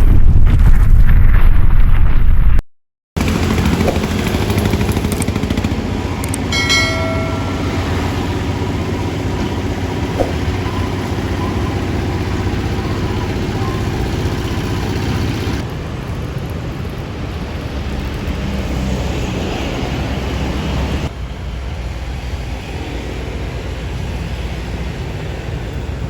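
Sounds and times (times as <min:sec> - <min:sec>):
diesel engines running: 0:03.2 - 0:26.0.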